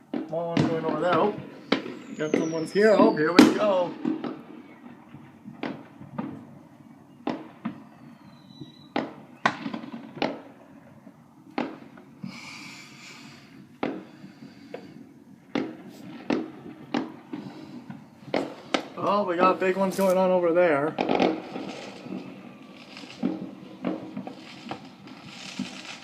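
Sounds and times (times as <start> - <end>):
fireworks hissing: 0.0 - 6.6, 11.5 - 26.0
fireworks bangs: 0.0 - 26.0.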